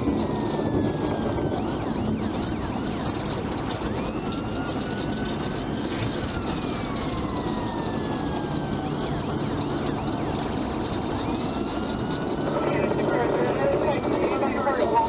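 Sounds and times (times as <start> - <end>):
car engine and road noise: 0.0 - 15.0
police siren wailing and yelping: 0.0 - 15.0.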